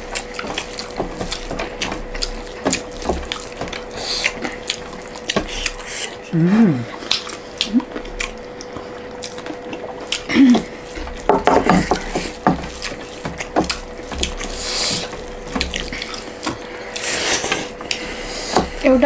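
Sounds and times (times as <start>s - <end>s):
faint steady hum: 0.0s - 19.0s
chewing and lip smacks: 0.1s - 11.3s, 11.9s - 18.8s.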